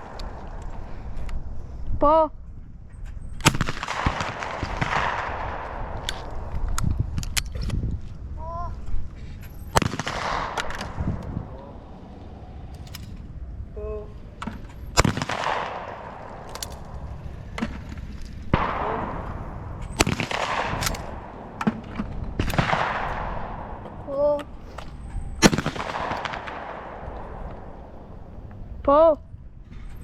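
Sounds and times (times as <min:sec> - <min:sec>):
echoing shotgun shots: 0:00.0 - 0:01.5, 0:03.4 - 0:07.4, 0:09.4 - 0:28.8.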